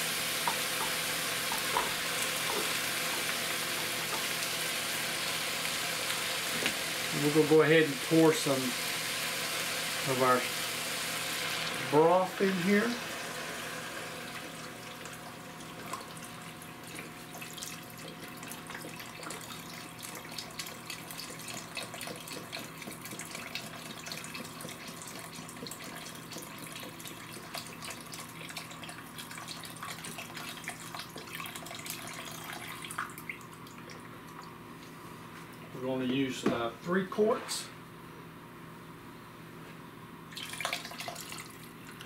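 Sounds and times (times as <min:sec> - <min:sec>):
liquid pouring into a pot: 0:00.4 - 0:34.5, 0:40.3 - 0:42.0.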